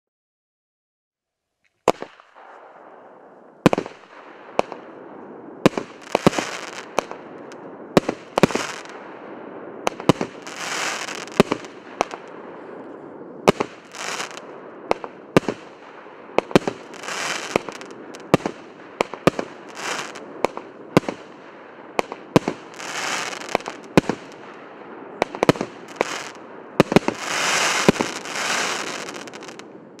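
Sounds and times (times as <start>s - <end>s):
fireworks bangs: 1.8s - 30.0s
fireworks crackle: 1.8s - 30.0s.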